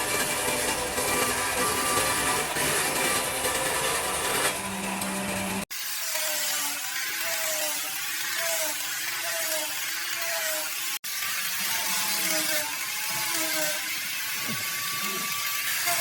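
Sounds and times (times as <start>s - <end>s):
power tool cutting wood: 0.0s - 16.0s.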